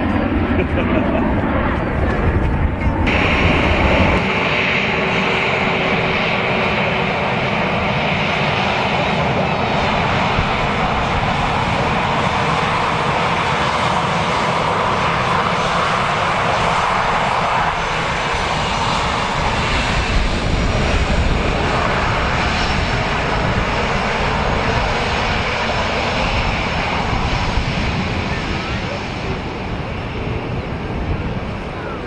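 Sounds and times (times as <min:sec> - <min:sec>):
airliner engines roaring: 0:00.0 - 0:32.0.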